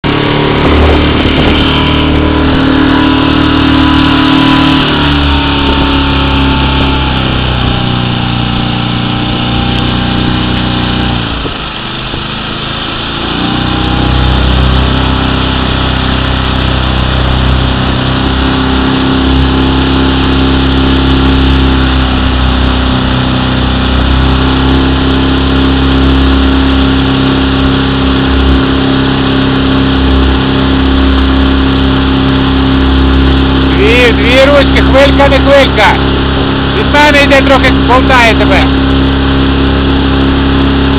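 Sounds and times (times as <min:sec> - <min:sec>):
motorboat engine running: 0:00.0 - 0:40.9.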